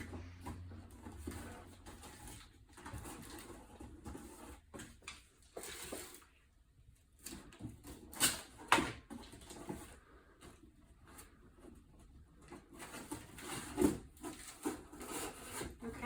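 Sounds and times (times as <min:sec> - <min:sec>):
cardboard rustling: 0:00.0 - 0:06.5, 0:07.1 - 0:16.0.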